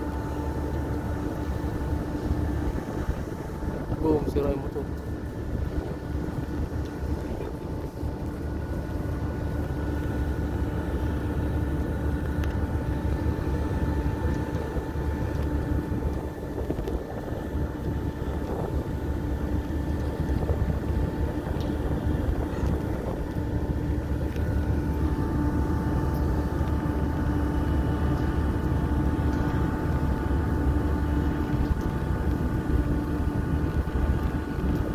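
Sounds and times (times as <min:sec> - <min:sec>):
engine running steadily: 0:00.0 - 0:34.9.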